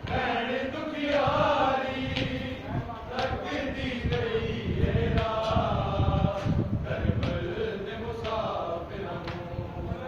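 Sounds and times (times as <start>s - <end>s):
men chanting in unison: 0.0s - 10.0s.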